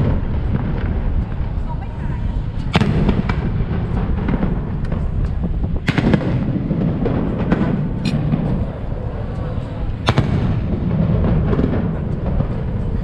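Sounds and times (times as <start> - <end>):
fireworks launching and bursting: 0.0 - 13.0.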